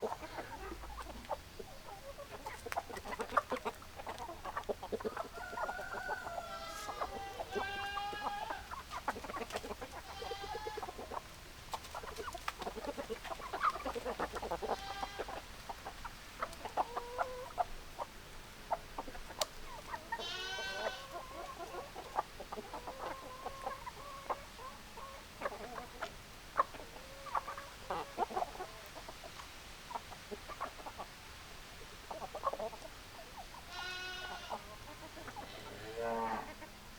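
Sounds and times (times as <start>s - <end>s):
chickens clucking: 0.0s - 36.9s
chickens drawn-out calls: 0.0s - 36.9s.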